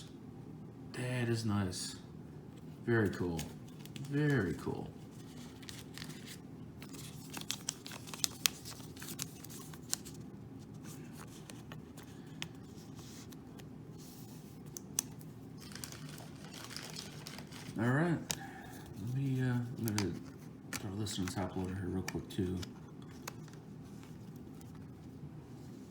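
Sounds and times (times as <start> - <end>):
low steady hum: 0.0 - 25.9
cards and plastic being handled: 3.0 - 25.9.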